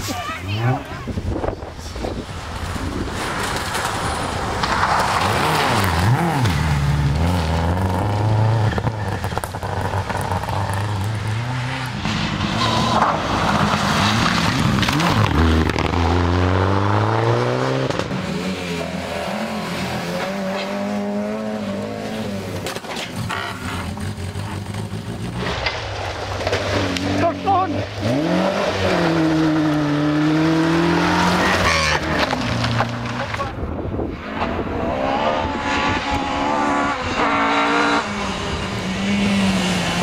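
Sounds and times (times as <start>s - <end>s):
rally car engine at full throttle: 0.0s - 40.0s
tyre and road noise: 0.0s - 40.0s.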